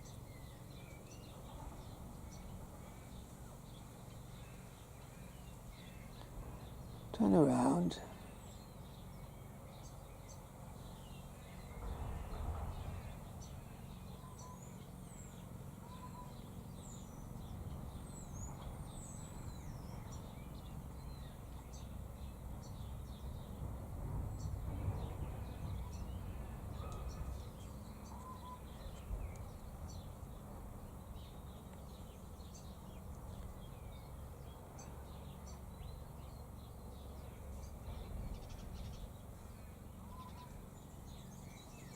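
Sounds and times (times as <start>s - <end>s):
birds chirping: 0.0s - 23.7s, 24.3s - 41.9s.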